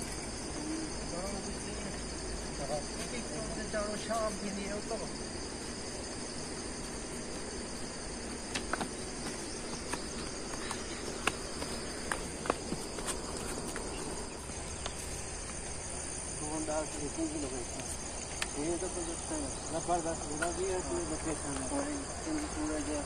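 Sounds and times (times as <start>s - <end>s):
insects chirring: 0.0s - 23.0s
footsteps on stony ground: 2.8s - 23.0s.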